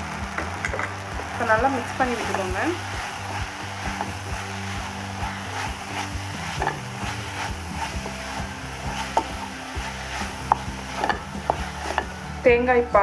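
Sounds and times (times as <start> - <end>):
faint frying sizzle: 0.0 - 13.0
spatula scraping pan: 1.8 - 12.4.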